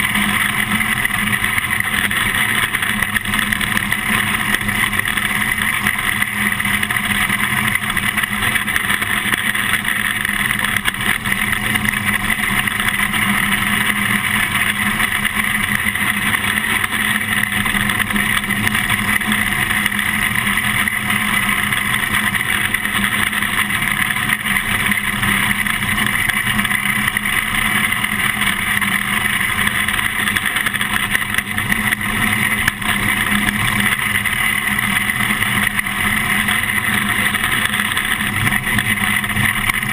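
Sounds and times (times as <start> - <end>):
chassis rattle: 0.0 - 39.9
race car engine running: 0.0 - 39.9
wind: 0.0 - 39.9.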